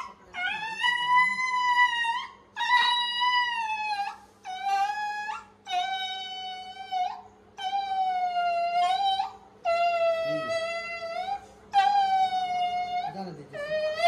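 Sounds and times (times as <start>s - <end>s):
dog whining: 0.0s - 14.0s.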